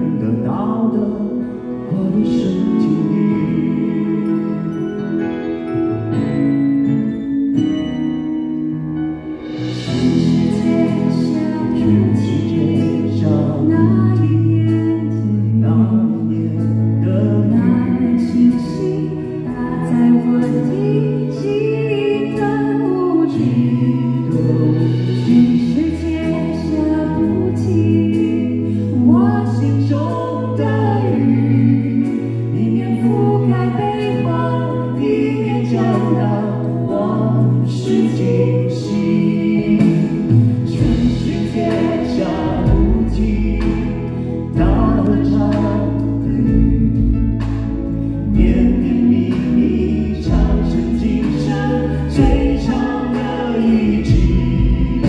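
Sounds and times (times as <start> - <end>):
man and woman singing duet: 0.0 - 5.3, 9.8 - 55.0
instrumental accompaniment: 0.0 - 55.0.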